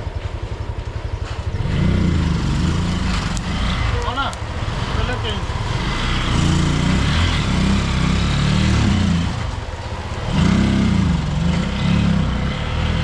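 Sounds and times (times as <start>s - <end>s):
vehicle engine revving: 1.2s - 13.0s.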